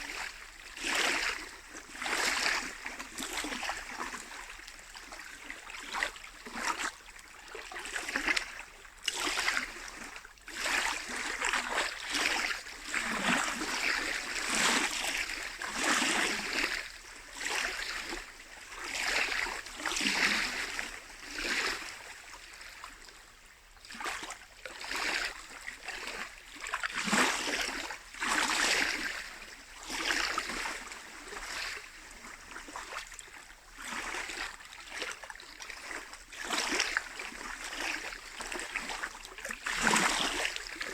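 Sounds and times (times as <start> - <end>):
waves lapping against shore: 0.0 - 40.9.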